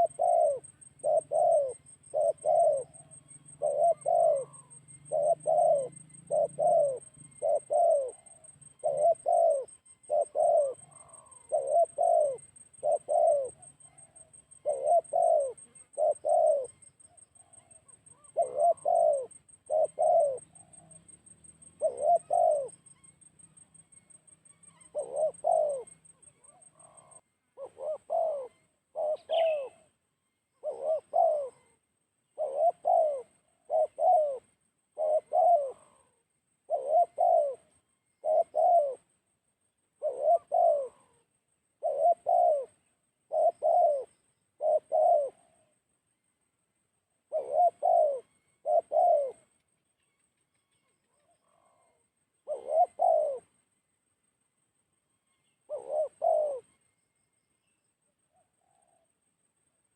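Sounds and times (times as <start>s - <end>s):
bird chirp: 0.0s - 39.2s, 40.0s - 45.8s, 47.3s - 53.6s, 55.0s - 59.0s
dove cooing: 0.0s - 39.2s, 39.9s - 45.8s, 47.2s - 49.6s, 50.7s - 53.6s, 55.4s - 57.0s, 58.3s - 59.1s.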